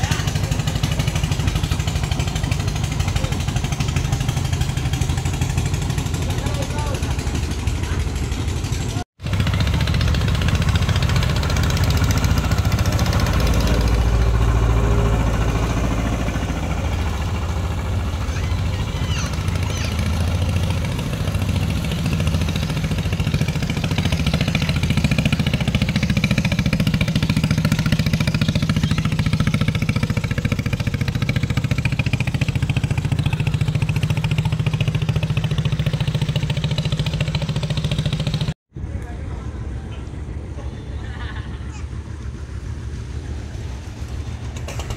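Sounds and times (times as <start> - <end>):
boat engines running: 0.0 - 44.9.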